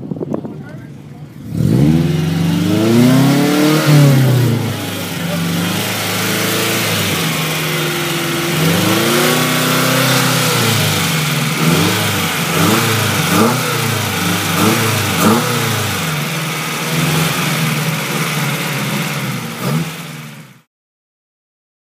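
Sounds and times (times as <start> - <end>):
car engine idling and revving: 0.0 - 20.7.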